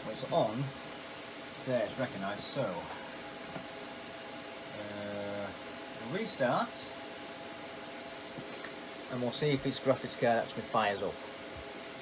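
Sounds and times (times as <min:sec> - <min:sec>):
computer fan hiss: 0:00.0 - 0:12.0
faint hum tones: 0:00.0 - 0:12.0.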